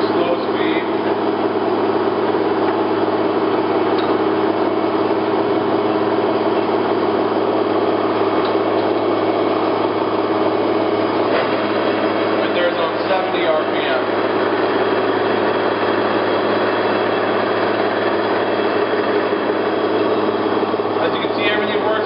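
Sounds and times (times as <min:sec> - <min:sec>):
lathe machine hum: 0:00.0 - 0:22.0.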